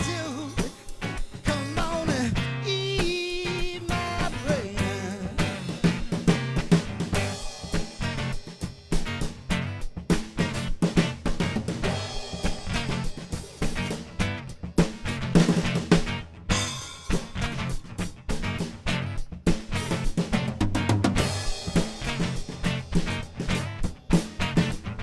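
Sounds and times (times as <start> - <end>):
live band instrumental: 0.0 - 25.0
drum hits: 4.2 - 25.0.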